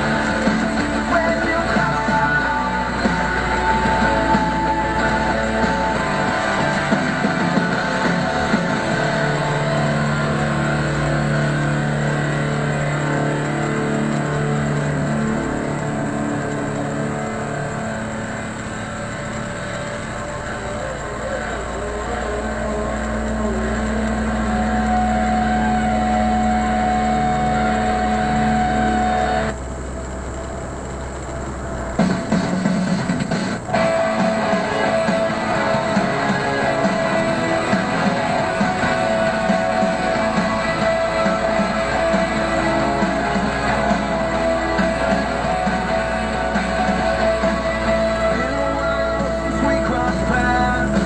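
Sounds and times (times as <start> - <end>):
steady hum: 0.0 - 51.0
truck engine running: 0.0 - 51.0.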